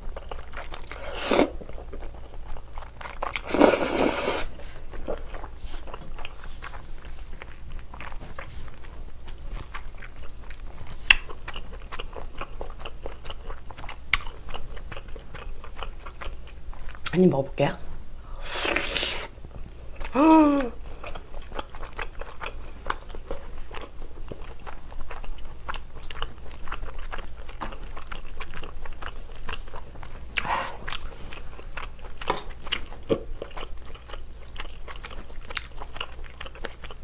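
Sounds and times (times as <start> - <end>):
wet chewing: 0.0 - 17.2, 21.0 - 37.0.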